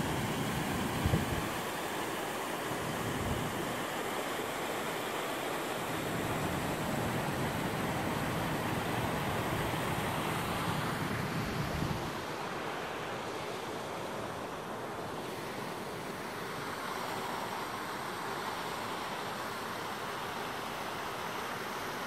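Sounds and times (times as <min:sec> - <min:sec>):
wind and sea hiss: 0:00.0 - 0:22.0.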